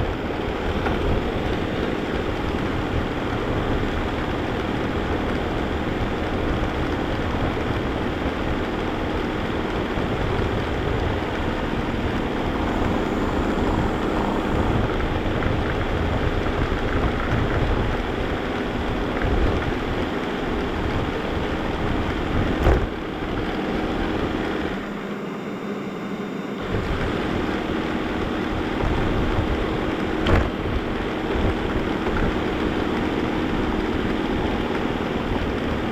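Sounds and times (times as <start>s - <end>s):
vacuum cleaner motor drone: 0.0s - 35.9s.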